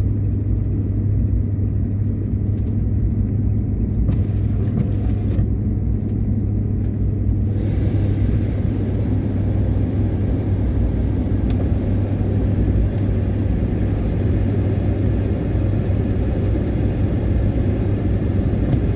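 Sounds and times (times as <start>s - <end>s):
car engine and road rumble: 0.0s - 18.9s.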